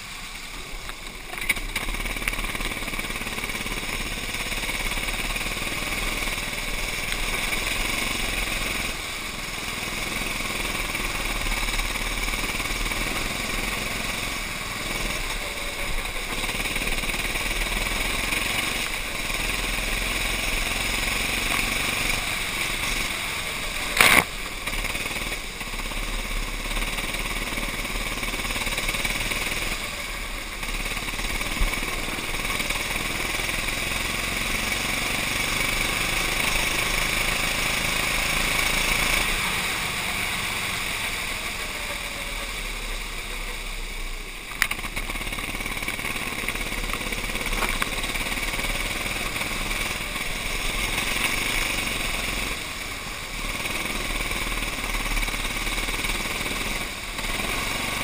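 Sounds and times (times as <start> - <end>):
kart engine running: 0.0 - 58.0.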